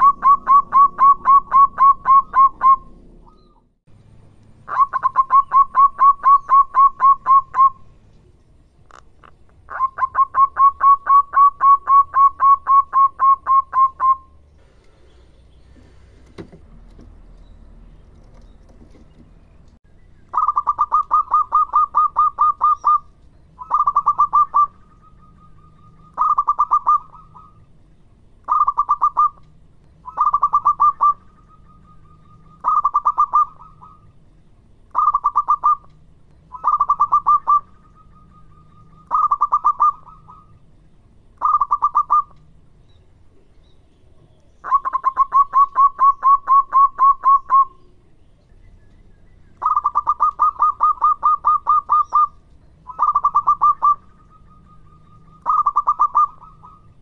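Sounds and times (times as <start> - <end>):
dove cooing song: 0.0 - 3.6, 4.6 - 16.2, 20.3 - 27.8, 28.4 - 34.3, 34.9 - 40.7, 41.4 - 42.6, 43.3 - 57.0.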